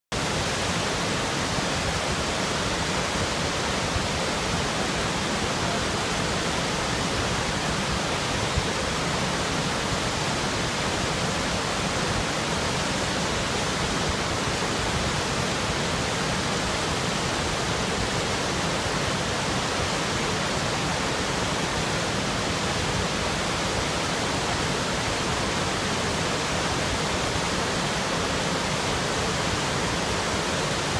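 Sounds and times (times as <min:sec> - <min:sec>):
waterfall roaring: 0:00.1 - 0:30.9.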